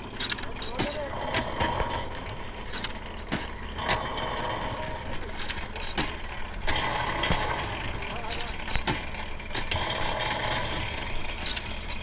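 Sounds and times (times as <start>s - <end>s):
brick extruding machine drone: 0.0s - 12.0s
sharp knocks and clanks: 0.0s - 12.0s.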